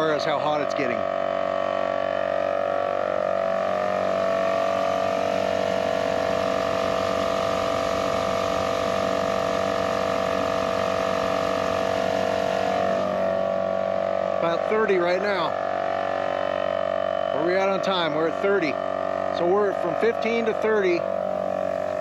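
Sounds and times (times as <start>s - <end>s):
air compressor running: 0.0s - 22.0s.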